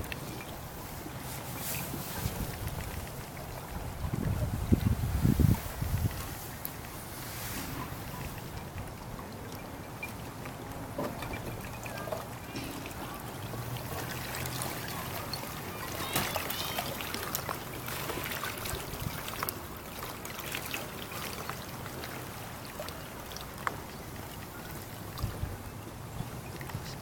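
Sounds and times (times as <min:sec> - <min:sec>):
lapping water: 0:00.0 - 0:27.0.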